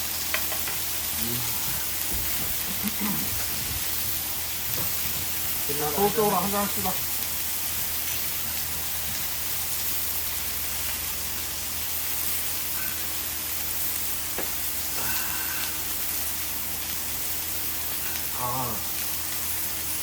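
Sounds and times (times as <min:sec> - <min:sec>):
meat sizzling on a griddle: 0:00.0 - 0:20.0.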